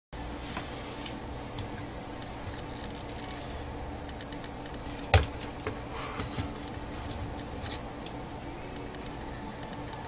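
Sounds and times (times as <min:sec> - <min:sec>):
steady low hum: 0:00.2 - 0:10.0.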